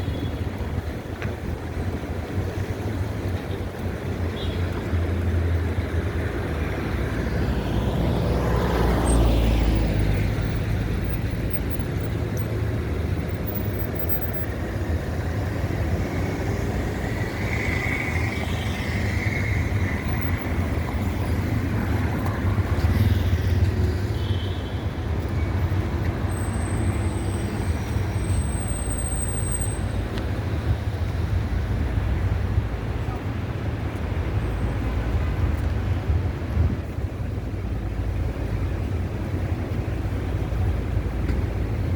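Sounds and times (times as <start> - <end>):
traffic rumble: 0.0 - 41.9.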